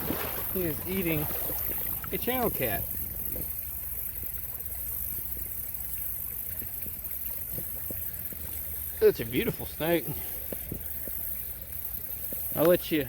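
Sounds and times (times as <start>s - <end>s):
creek water running: 0.0s - 13.0s
faint ticks: 0.1s - 13.0s.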